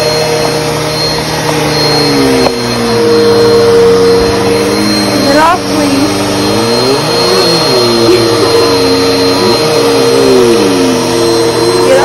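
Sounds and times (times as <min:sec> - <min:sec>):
upright vacuum cleaner whining: 0:00.0 - 0:12.0.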